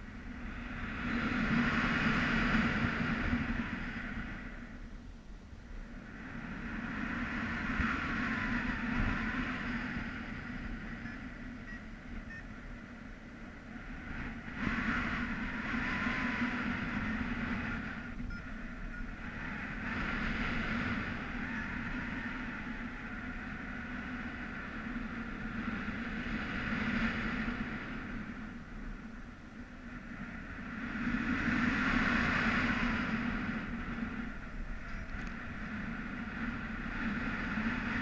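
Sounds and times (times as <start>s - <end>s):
wind noise on microphone: 0.0s - 38.0s.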